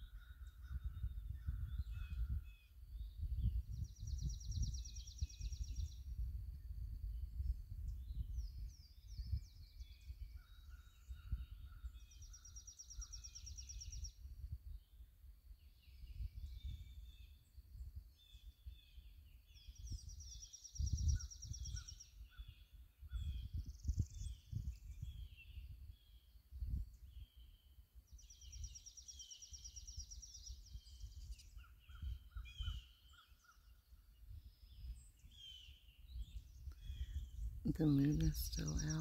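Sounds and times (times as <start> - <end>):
songbirds chirping and singing: 0.0 - 6.2, 7.4 - 39.0.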